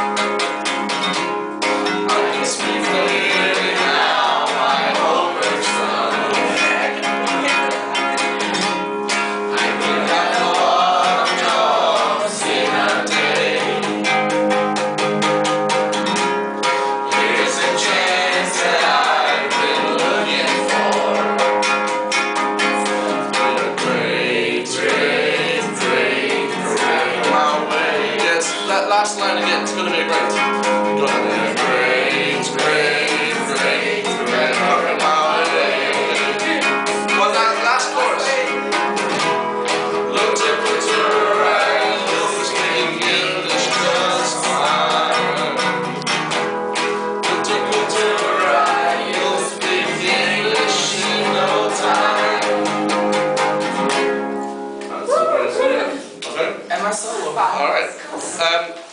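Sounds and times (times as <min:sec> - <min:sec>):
group of voices singing: 0:00.0 - 0:54.3
acoustic guitar strumming: 0:00.0 - 0:57.1.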